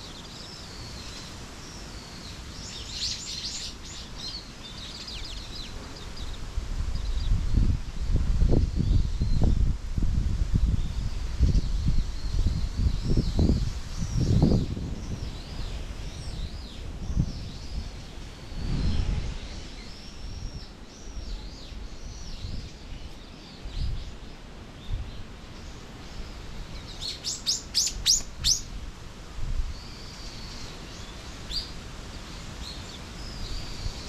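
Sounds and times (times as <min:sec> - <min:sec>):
small songbirds chirping: 0:00.0 - 0:09.8, 0:10.5 - 0:28.8, 0:29.6 - 0:34.0.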